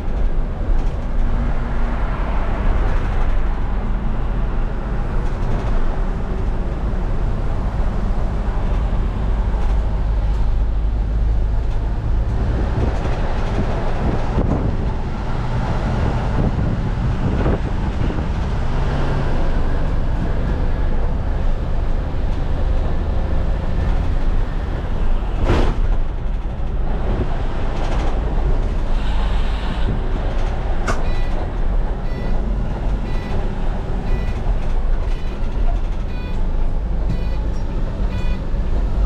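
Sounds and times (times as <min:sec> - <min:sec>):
diesel engine rumble: 0:00.0 - 0:39.0
road and cab noise: 0:00.0 - 0:39.0.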